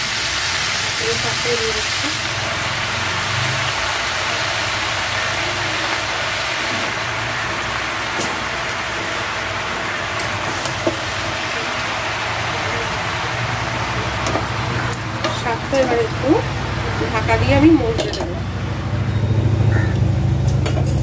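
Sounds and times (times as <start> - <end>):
spinach sizzling in pan: 0.0 - 18.4.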